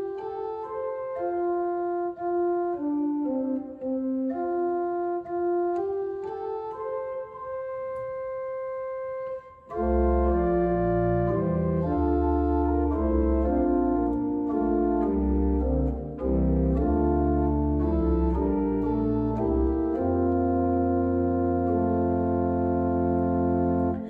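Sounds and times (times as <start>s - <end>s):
church organ playing: 0.0s - 24.0s.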